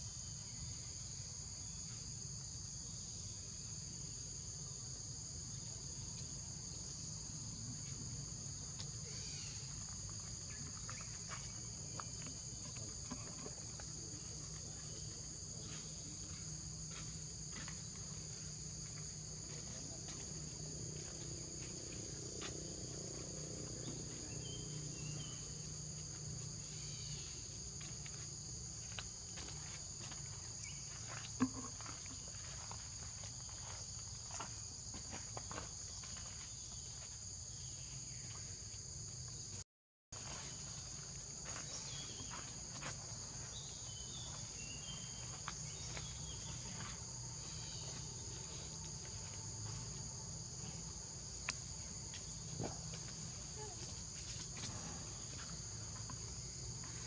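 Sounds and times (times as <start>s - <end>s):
insect chorus buzzing: 0.0s - 39.6s, 40.2s - 57.0s.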